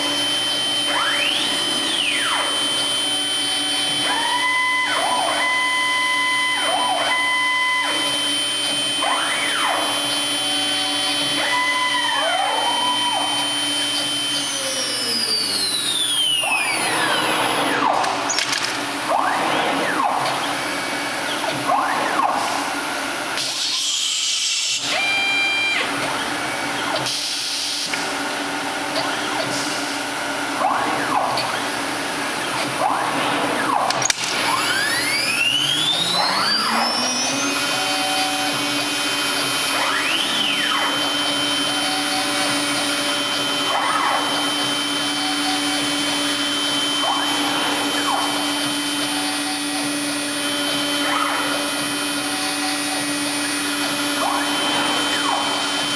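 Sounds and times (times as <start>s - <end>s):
cnc motors whining: 0.0s - 55.9s
spindle whining: 0.1s - 22.2s, 32.2s - 55.9s.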